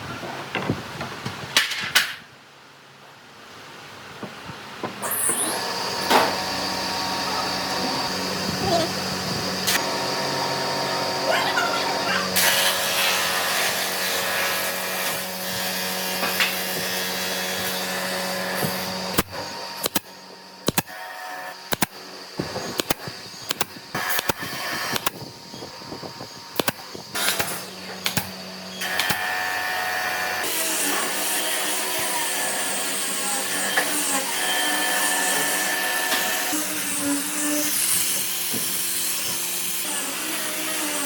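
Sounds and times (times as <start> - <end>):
power tool motor running: 5.0 - 41.0.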